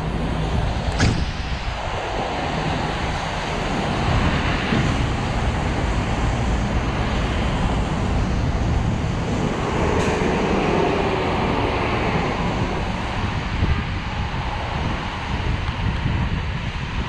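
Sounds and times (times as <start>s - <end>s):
city traffic: 0.0s - 17.0s
tyres on wet pavement: 0.0s - 17.0s
wind on microphone: 0.0s - 17.0s.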